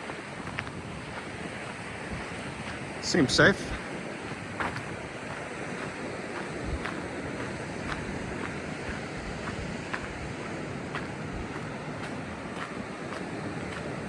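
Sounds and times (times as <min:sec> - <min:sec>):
faint footsteps: 0:00.0 - 0:14.0
river water rushing: 0:00.0 - 0:14.0
waterfall: 0:00.0 - 0:14.0
wind on microphone: 0:00.0 - 0:14.0.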